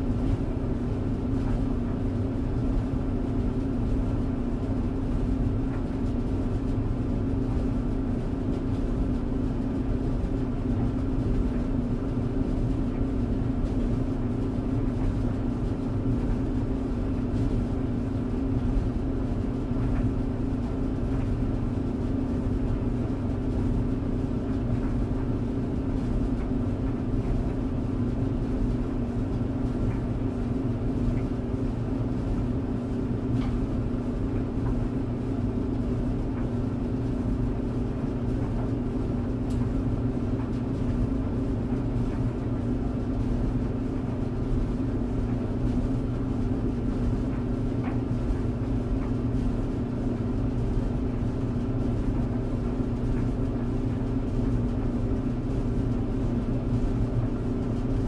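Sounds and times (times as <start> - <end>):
tumble dryer running: 0.0 - 58.0.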